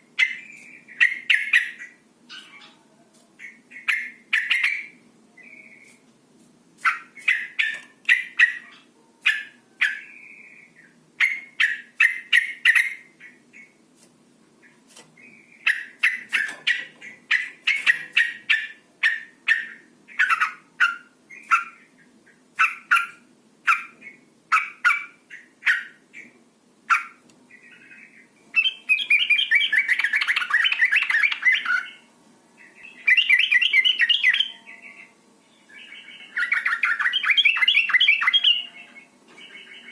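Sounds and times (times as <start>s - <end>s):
bird chirping: 0.0s - 6.0s, 6.8s - 13.8s, 14.6s - 39.9s.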